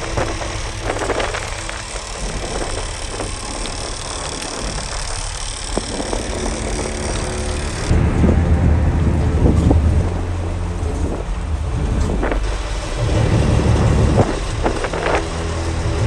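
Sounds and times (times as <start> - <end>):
boat engine running: 0.0 - 16.0
wind and sea rushing: 0.0 - 16.0.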